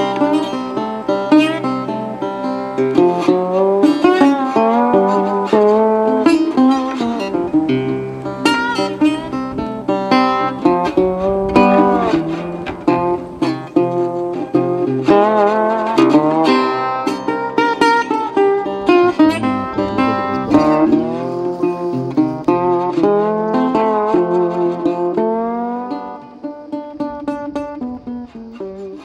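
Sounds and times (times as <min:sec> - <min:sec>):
plucked acoustic guitar tune: 0:00.0 - 0:29.0.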